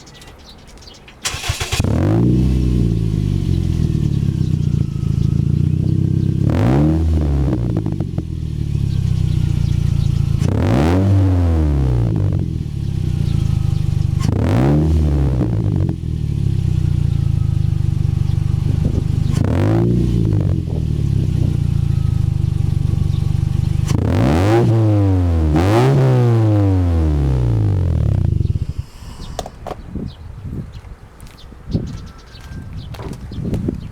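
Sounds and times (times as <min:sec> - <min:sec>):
car exhaust idling and revving: 0:01.3 - 0:29.6.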